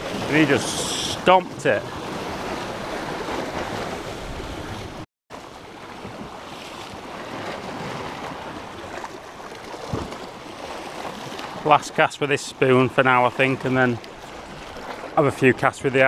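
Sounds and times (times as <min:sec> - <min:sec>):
waves breaking on rocky shore: 0:00.0 - 0:16.0.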